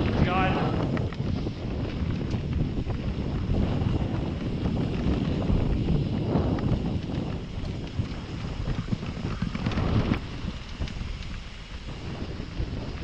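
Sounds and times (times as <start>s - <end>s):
bike knocking and clattering: 0.0s - 13.0s
tyres rumbling on dirt: 0.0s - 13.0s
wind buffeting microphone: 0.0s - 13.0s.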